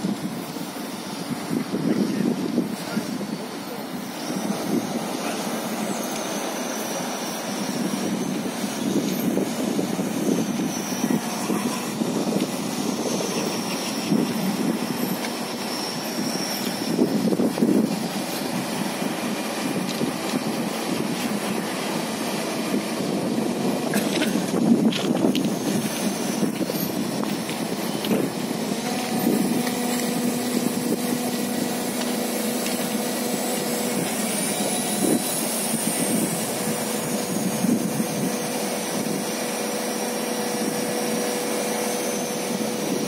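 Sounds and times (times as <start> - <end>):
excavator mechanical drone: 0.0 - 43.0
faint high whine: 0.0 - 43.0.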